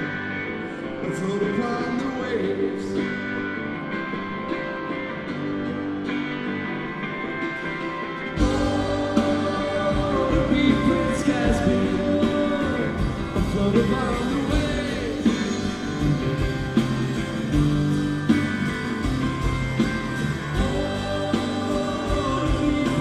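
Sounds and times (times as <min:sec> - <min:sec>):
bass guitar: 0:00.0 - 0:23.0
drums: 0:00.0 - 0:23.0
electric guitar: 0:00.0 - 0:23.0.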